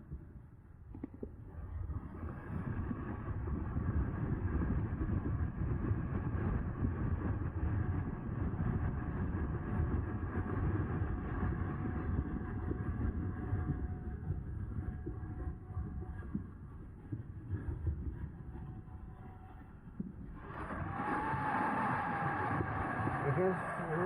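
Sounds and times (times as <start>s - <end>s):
faint steady whine: 0.0s - 24.0s
wind buffeting on microphone: 0.9s - 24.0s
e-bike riding rumble: 1.0s - 24.0s.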